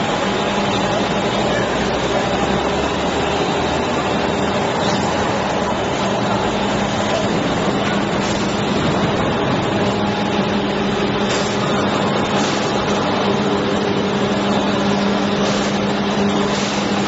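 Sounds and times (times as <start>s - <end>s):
industrial machine drone: 0.0s - 17.0s.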